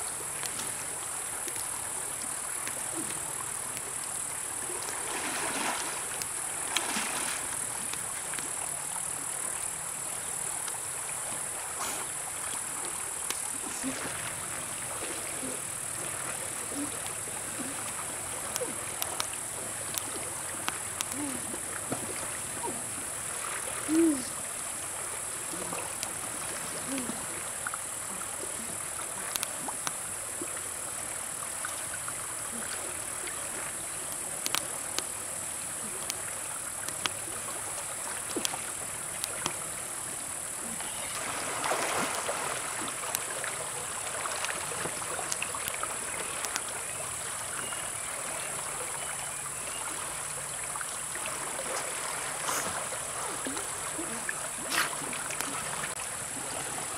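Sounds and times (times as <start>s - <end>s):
water splashing: 0.0s - 9.9s, 10.5s - 56.9s
water rushing over rocks: 0.0s - 49.0s, 49.9s - 56.9s
high insect drone: 0.0s - 56.9s.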